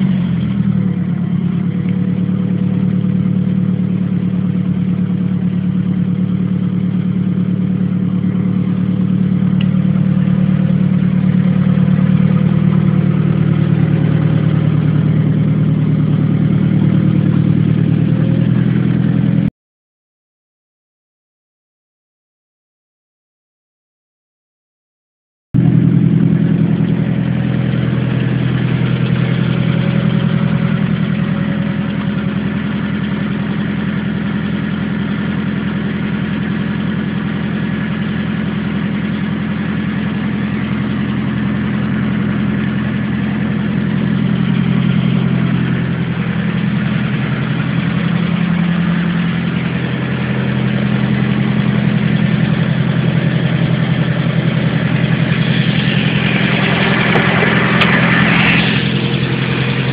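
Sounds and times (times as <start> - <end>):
vehicle engine idling: 0.0 - 19.5, 25.6 - 59.9.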